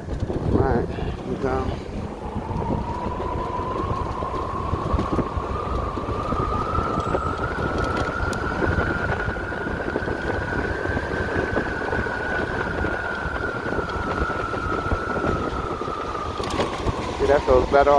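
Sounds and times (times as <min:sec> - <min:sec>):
electric motorcycle motor whine: 0:00.0 - 0:17.9
wind rushing over microphone: 0:00.0 - 0:17.9.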